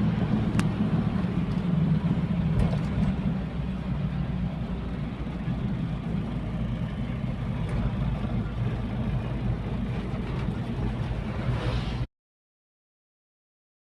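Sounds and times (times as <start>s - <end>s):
vehicle engine and road noise: 0.0s - 12.1s.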